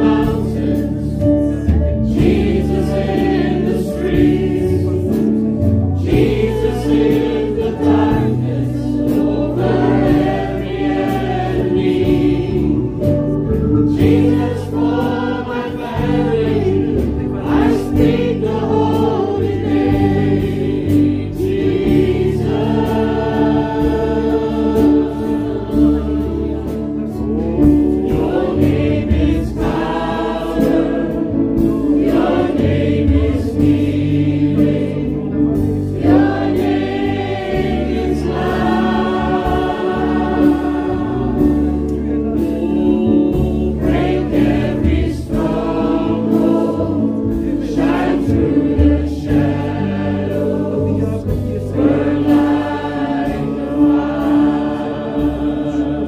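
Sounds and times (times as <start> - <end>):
bass line: 0.0 - 56.0
choir singing: 0.0 - 56.0.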